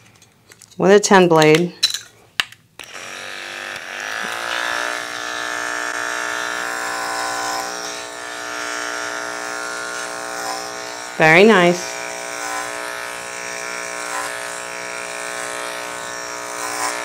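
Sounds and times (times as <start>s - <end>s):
electric clipper motor humming: 2.8s - 17.0s.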